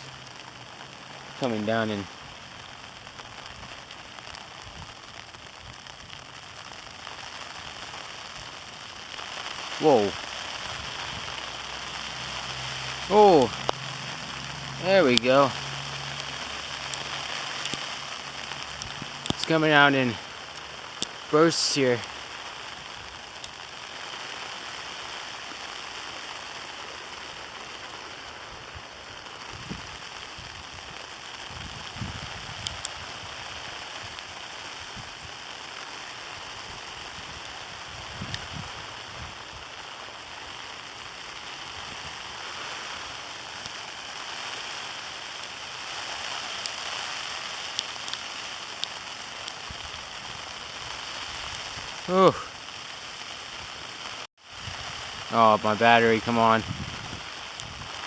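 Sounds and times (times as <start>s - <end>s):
sleet pellets hissing and ticking: 0.0s - 58.0s.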